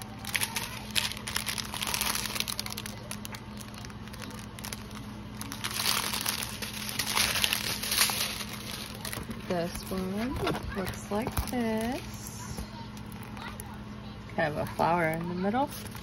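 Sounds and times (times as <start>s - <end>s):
plastic bags crinkling: 0.0s - 13.8s, 14.4s - 16.0s.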